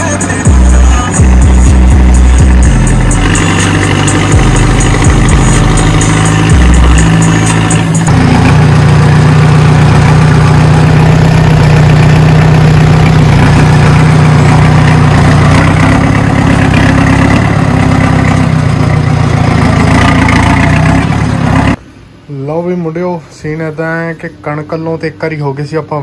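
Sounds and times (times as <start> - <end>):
diesel tractor engine running: 0.0 - 22.2.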